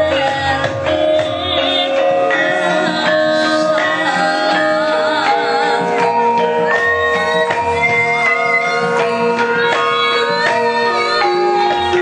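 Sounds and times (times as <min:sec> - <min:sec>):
high melodic line: 0:00.0 - 0:12.0
metallophone notes ringing: 0:00.0 - 0:12.0.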